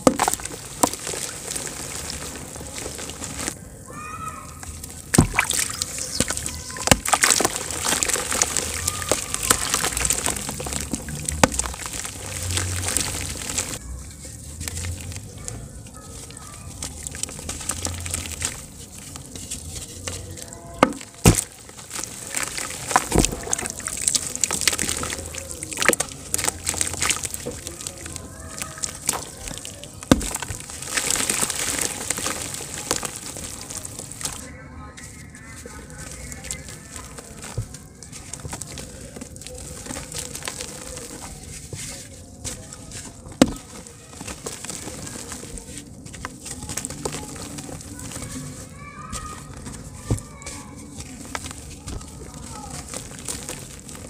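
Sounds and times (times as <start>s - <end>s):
clumps splashing in water: 0.0s - 34.5s, 35.4s - 54.0s
dry dirt crumbling: 0.0s - 54.0s.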